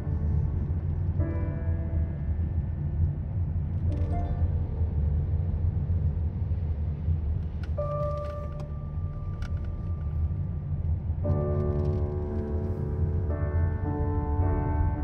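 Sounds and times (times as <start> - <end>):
car engine and tyres rumbling: 0.0 - 14.4
faint background music: 0.0 - 15.0.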